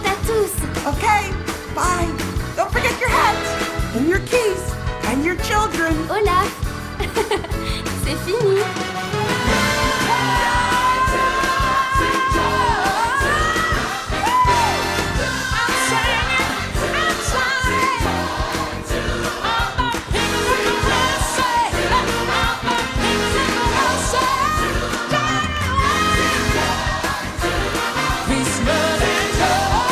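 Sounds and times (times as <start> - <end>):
pop song with singer: 4.3 - 29.9.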